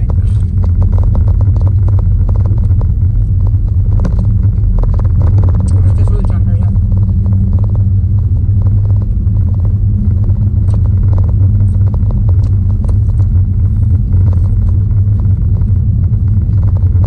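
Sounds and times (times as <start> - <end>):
loud steady low rumble: 0.0 - 17.0.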